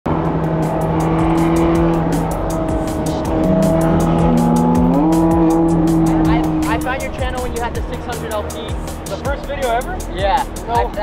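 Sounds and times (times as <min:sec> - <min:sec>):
music with fast steady beat: 0:00.4 - 0:11.0.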